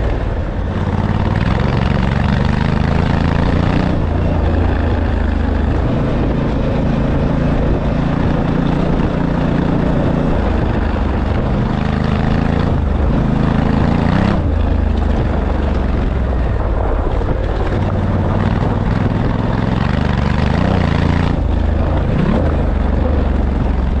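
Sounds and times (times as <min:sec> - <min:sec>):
large engine running: 0:00.0 - 0:24.0.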